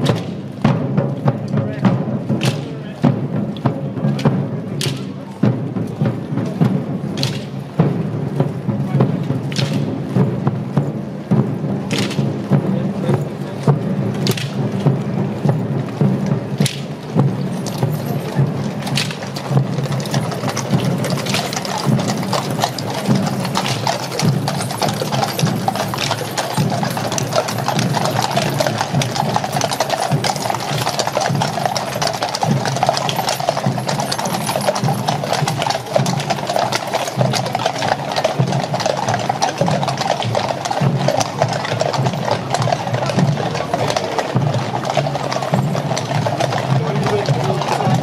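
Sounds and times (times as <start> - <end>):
horse hooves clip-clopping on tarmac: 0.0 - 48.0.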